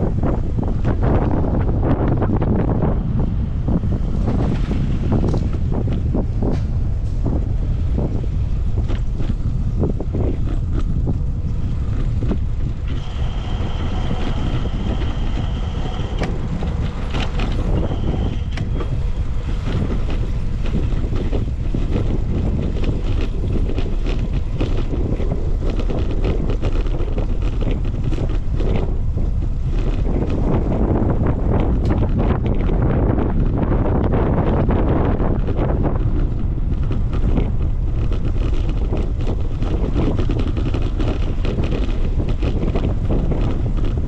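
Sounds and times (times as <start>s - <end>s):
bicycle rattles and clicks: 0.0s - 44.0s
high steady whine: 0.0s - 44.0s
wind rumbling on microphone: 0.0s - 44.0s.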